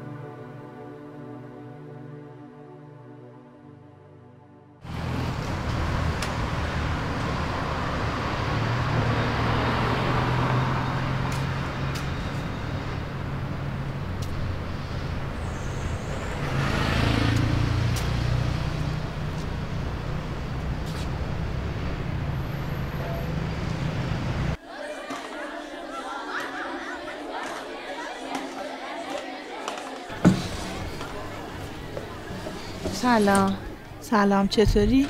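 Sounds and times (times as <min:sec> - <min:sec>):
cars passing on road: 0:04.8 - 0:24.6, 0:25.2 - 0:35.0.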